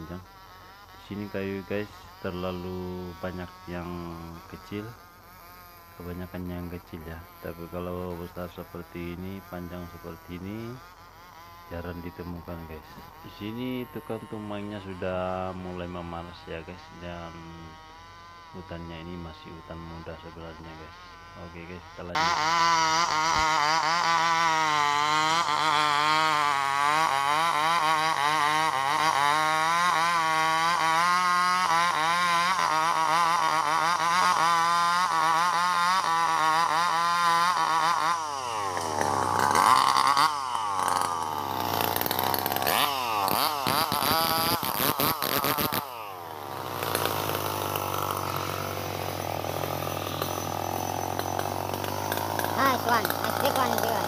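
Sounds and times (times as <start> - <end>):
chainsaw cutting branches: 0.0 - 54.0.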